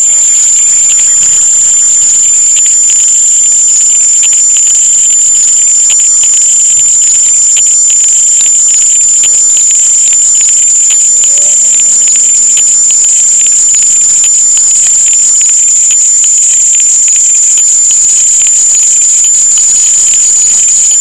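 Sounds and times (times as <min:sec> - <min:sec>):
high-pitched whine: 0:00.0 - 0:21.0.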